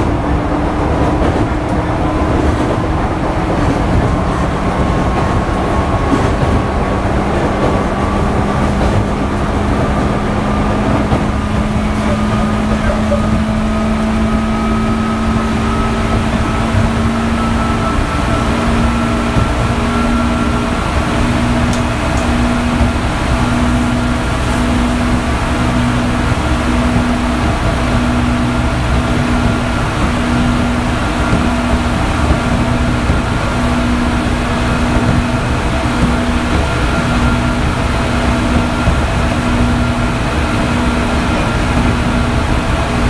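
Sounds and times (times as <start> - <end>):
traction motor whine: 0.0 - 43.0
wheels rumbling on rail: 0.0 - 43.0.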